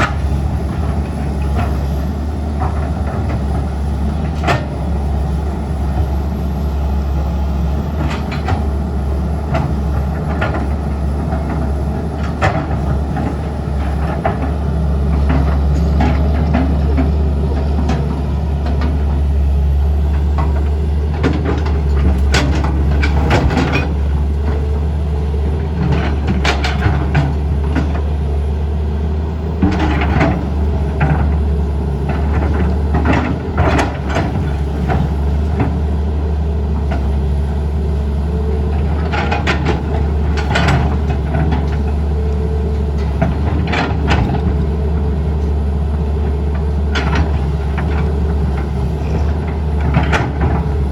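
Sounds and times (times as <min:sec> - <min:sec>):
heavy machinery engine: 0:00.0 - 0:50.9.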